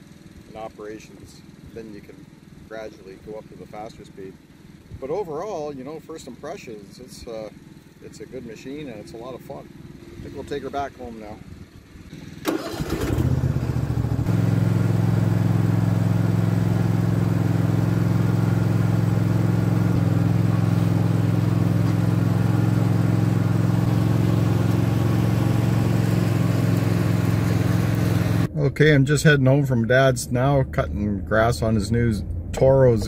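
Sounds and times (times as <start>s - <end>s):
mower engine running: 0.0s - 28.5s.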